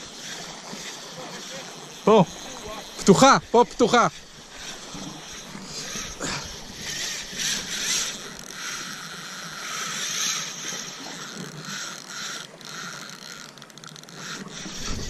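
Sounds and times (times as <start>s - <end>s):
fishing reel drag buzzing: 0.0s - 15.0s
water noise: 0.0s - 15.0s
wind: 0.0s - 15.0s.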